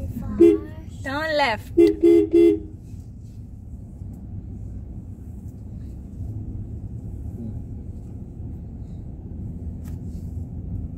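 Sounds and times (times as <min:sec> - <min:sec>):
car engine and tyres rumbling: 0:00.0 - 0:10.9.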